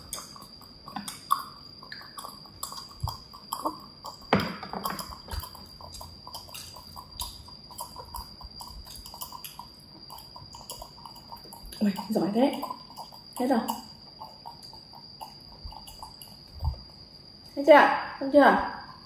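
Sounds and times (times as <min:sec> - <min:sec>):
monkey sipping and swallowing: 0:00.0 - 0:17.0.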